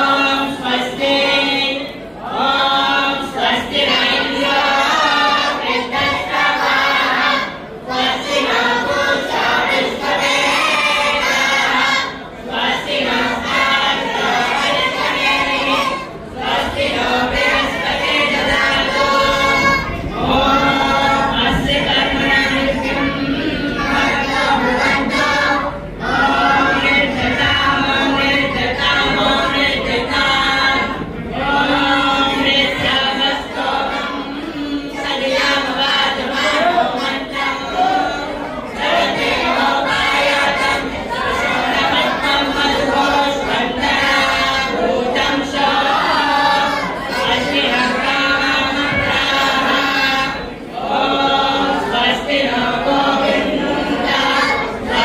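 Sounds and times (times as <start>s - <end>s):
group of voices chanting: 0.0s - 55.0s.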